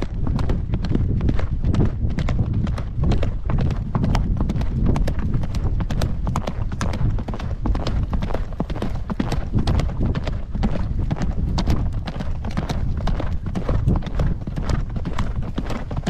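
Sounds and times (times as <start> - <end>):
horse hoofbeats on dirt: 0.0 - 16.0
wind on microphone: 0.0 - 16.0.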